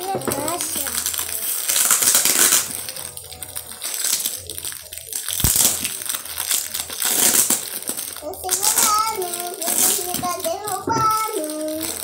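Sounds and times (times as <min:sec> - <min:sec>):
plastic film crinkling and tearing: 0:00.0 - 0:12.0.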